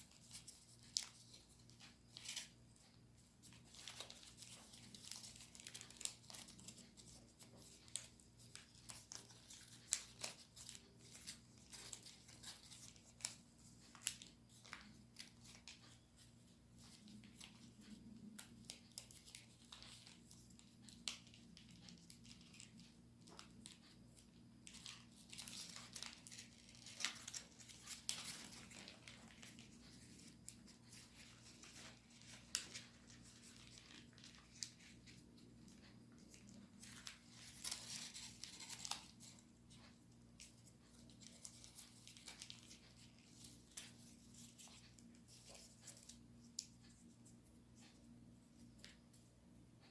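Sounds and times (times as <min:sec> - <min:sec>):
paper crinkling and creasing: 0:00.0 - 0:49.9.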